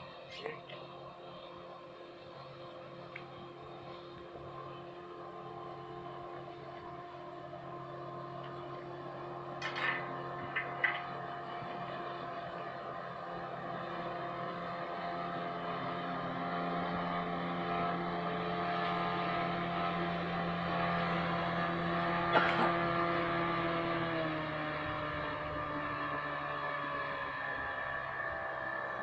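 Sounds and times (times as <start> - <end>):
outboard motor running: 0.0 - 29.0.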